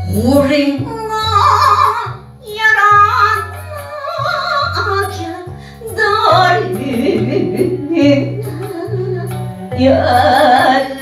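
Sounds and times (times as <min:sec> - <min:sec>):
karaoke backing track: 0:00.0 - 0:11.0
woman singing into microphone: 0:00.0 - 0:11.0.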